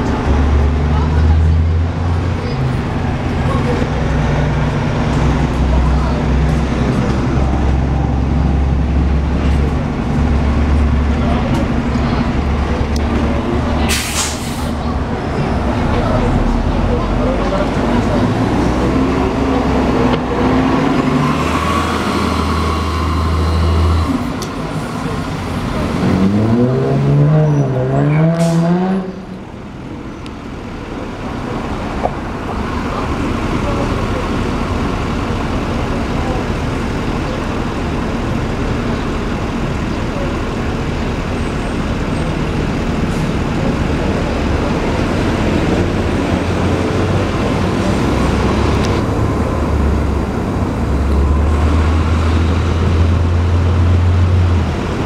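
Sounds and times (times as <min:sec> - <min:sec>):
bus engine revving: 0:00.0 - 0:55.0
street traffic: 0:00.0 - 0:55.0.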